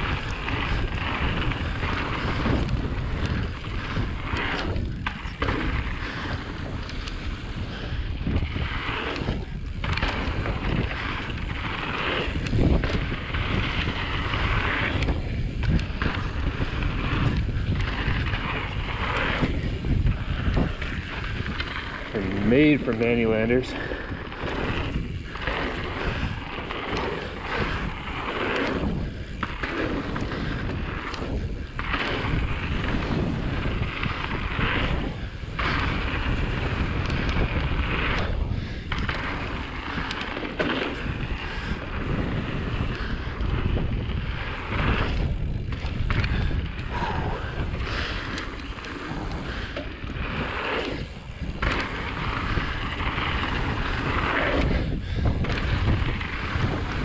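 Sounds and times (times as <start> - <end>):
bike tyres rolling over dirt: 0.0 - 57.0
wind buffeting microphone: 0.0 - 57.0.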